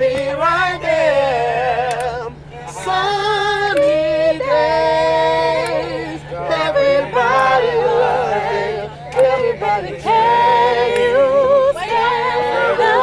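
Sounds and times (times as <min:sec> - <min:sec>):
men singing a cappella: 0:00.0 - 0:13.0
steady low hum: 0:00.0 - 0:13.0.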